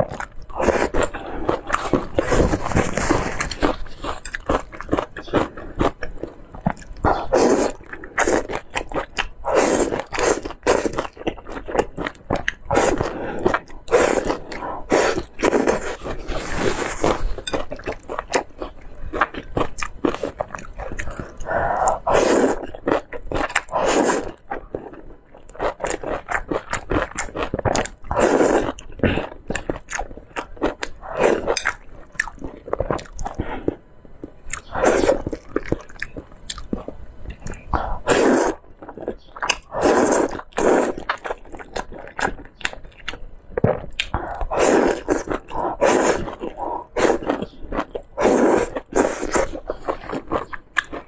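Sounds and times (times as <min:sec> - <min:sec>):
wet chewing and slurping noodles: 0:00.0 - 0:33.8, 0:34.5 - 0:51.0.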